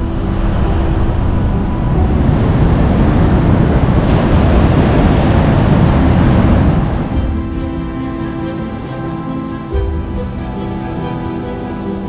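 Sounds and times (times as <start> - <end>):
wind buffeting microphone: 0.0 - 10.6
surf rushing on beach: 0.0 - 12.0.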